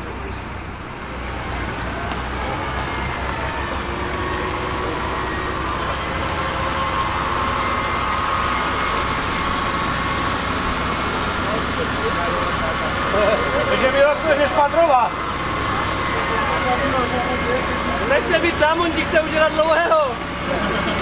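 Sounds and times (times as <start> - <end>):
engine running: 0.0 - 21.0
winch whining: 1.3 - 21.0.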